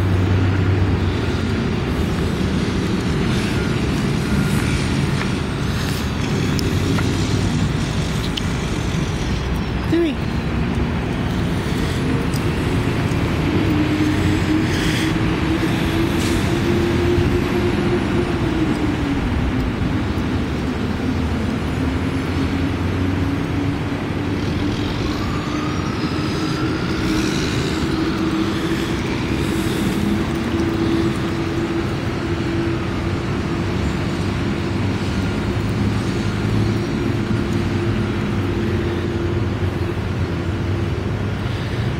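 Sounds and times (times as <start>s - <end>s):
constant rough noise: 0.0s - 41.9s.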